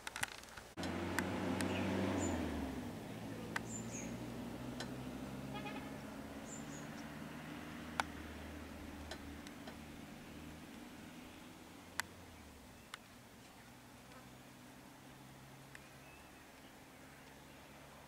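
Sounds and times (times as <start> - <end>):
vehicle engine idling: 0.8 - 18.0.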